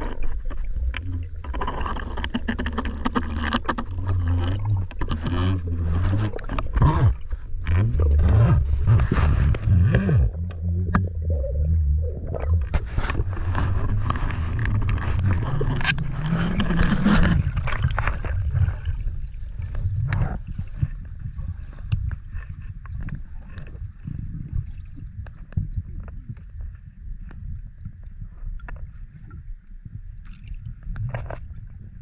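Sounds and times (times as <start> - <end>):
underwater rumble and gurgling: 0.0 - 32.0.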